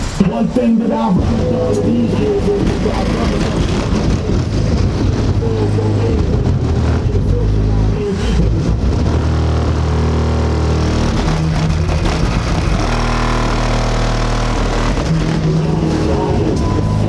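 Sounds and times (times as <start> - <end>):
bass-heavy music through car speakers: 0.0 - 17.0.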